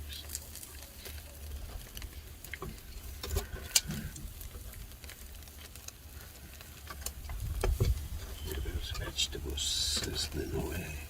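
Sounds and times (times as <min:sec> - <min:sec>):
crackles and pops: 0:00.0 - 0:11.0
meat sizzling on a grill: 0:00.0 - 0:11.0.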